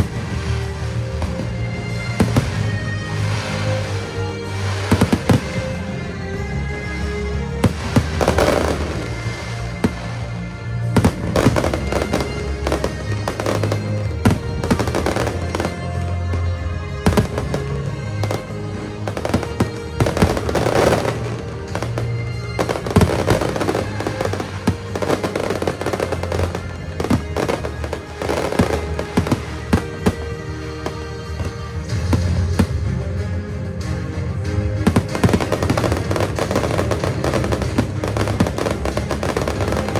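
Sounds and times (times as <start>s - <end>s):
fireworks bursting with bangs: 0.0s - 39.9s.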